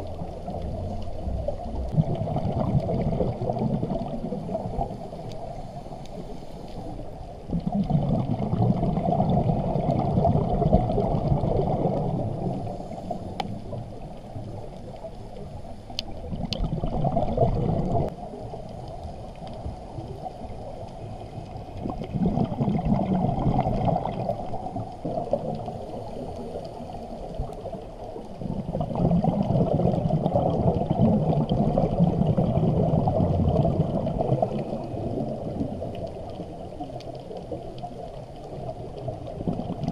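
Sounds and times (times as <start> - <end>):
underwater regulator bubbles: 0.0 - 39.9.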